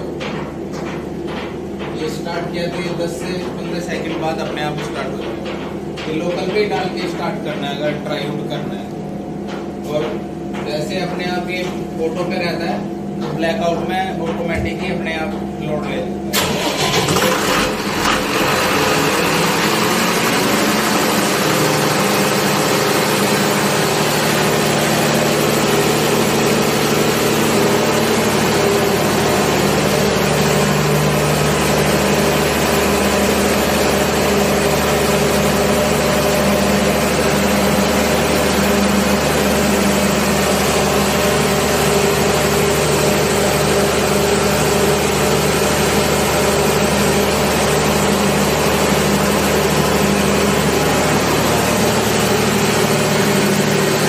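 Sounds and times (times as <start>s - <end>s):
diesel generator engine running: 0.0s - 54.0s.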